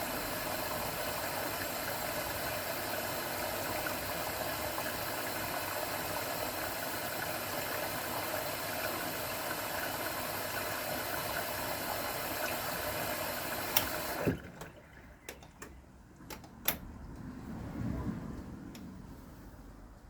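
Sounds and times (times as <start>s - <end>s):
washing machine churning: 0.0s - 18.8s.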